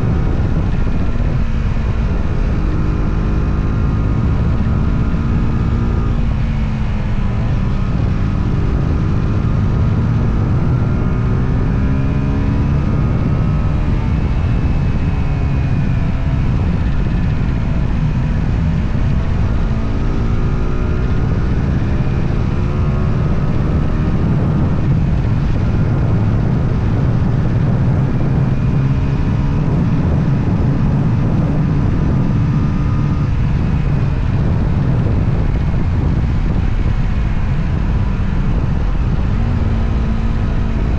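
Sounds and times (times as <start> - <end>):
motorcycle engine accelerating: 0.0 - 40.9
wind and road rumble: 0.0 - 40.9.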